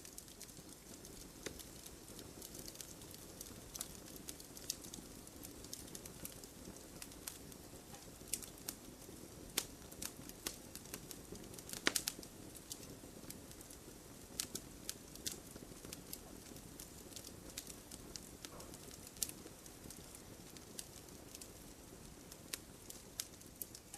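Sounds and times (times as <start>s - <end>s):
fire crackling and popping: 0.0s - 23.9s
low rumble of flames: 0.0s - 23.9s.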